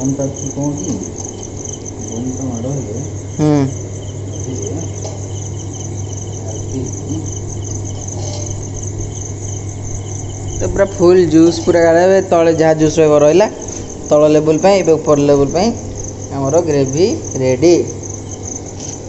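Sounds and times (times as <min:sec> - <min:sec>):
low hum: 0:00.0 - 0:16.4
crickets chirping: 0:00.0 - 0:19.0.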